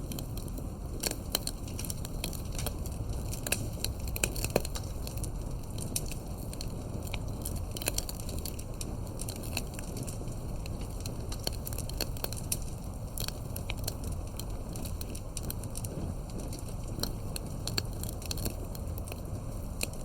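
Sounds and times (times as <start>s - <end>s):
burning wood crackling and popping: 0.0s - 20.0s
campfire flames rumbling: 0.0s - 20.0s.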